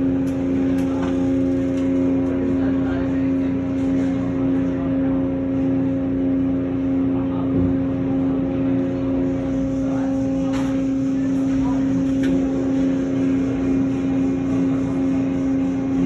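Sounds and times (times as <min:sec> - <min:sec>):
car wash machinery humming: 0:00.0 - 0:16.0.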